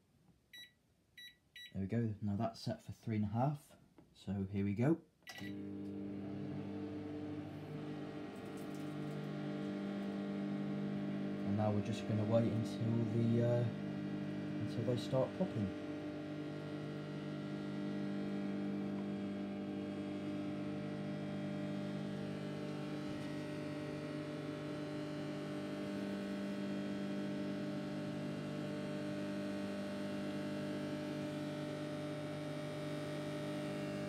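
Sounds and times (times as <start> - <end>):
microwave oven humming: 5.3 - 34.0.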